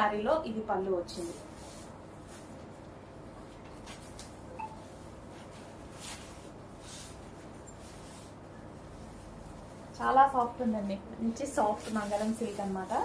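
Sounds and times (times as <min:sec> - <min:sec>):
fabric rustling: 0:01.1 - 0:13.0.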